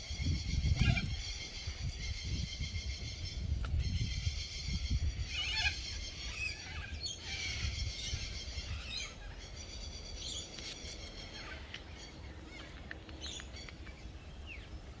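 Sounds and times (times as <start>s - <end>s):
birds chirping and singing: 0.0s - 15.0s
steady low rumble: 0.0s - 15.0s.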